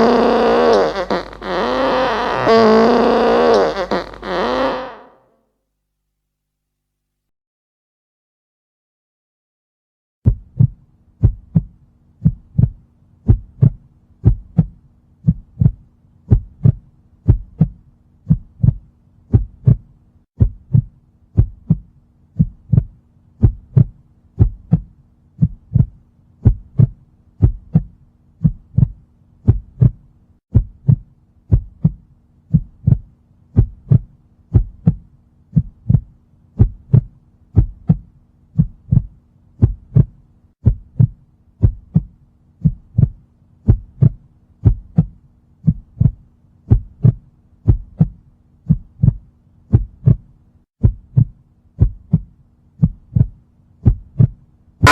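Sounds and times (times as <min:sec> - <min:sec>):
heartbeat thumps: 0:10.3 - 0:50.2, 0:50.8 - 0:54.9.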